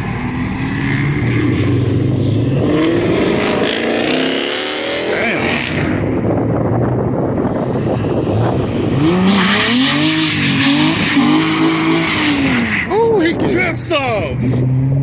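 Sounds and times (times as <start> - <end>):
car engine revving hard: 0.0 - 12.9.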